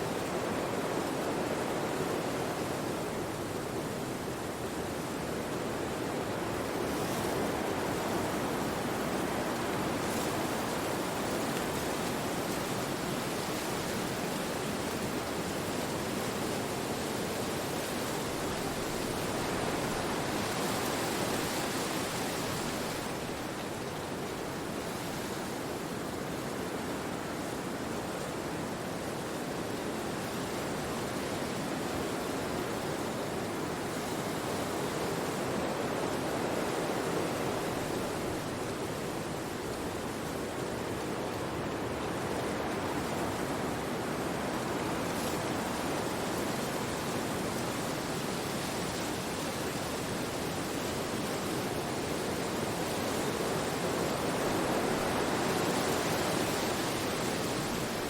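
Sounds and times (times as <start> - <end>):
wind rushing through trees: 0.0 - 58.0.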